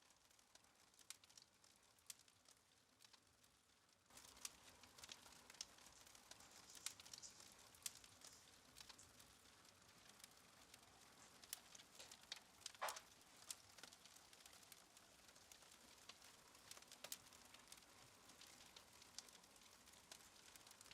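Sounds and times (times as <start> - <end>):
soft hiss: 0.0 - 20.9
wood fire crackling: 0.0 - 20.9.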